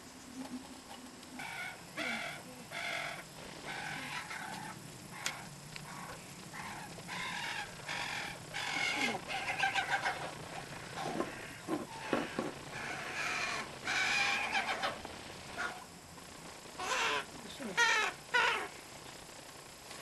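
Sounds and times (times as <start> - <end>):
crow harsh begging calls: 1.4 - 15.8, 16.8 - 18.7.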